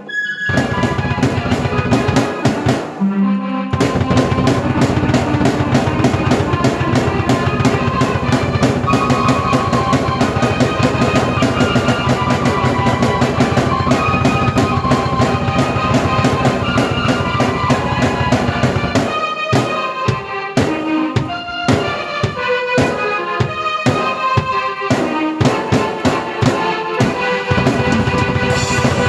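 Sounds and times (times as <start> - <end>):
keyboard melody: 0.0 - 29.0
drum kit fast beat: 0.5 - 3.0, 3.8 - 29.0.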